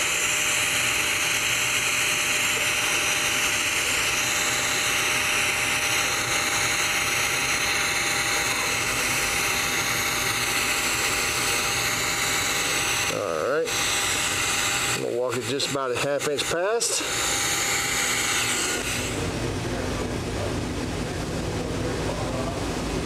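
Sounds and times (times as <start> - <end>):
welding arc hissing: 0.0 - 19.2.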